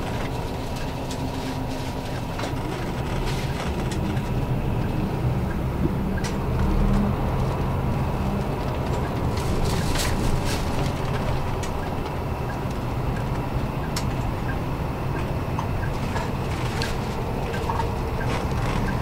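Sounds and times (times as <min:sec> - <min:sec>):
coach engine and tyre drone: 0:00.0 - 0:19.0.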